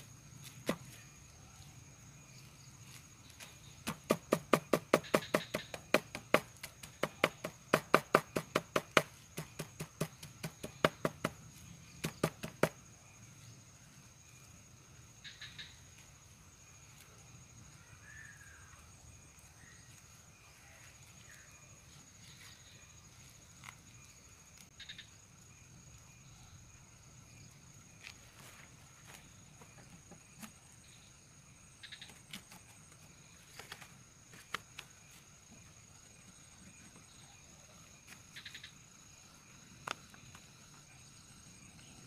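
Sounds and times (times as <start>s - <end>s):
high insect whine: 0.0s - 42.0s.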